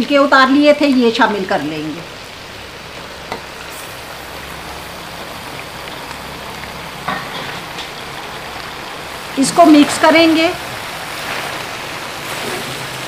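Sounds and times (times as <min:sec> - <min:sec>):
chicken sizzling in a pot: 0:00.0 - 0:13.0.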